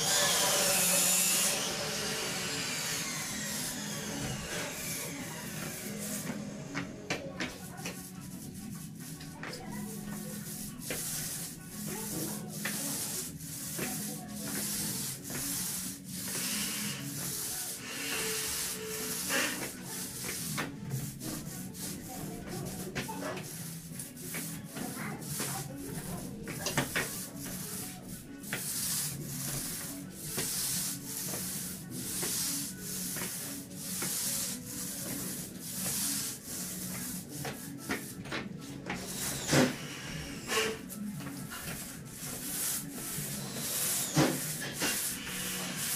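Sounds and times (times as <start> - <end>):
paint roller rubbing hiss: 0.0 - 45.9.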